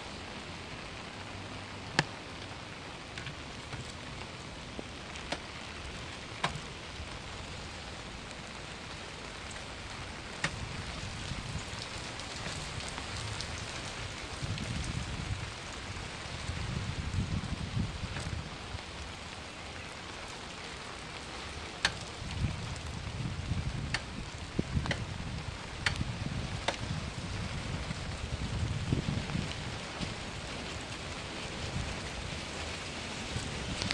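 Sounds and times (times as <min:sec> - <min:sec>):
rain on wet street: 0:00.0 - 0:33.9.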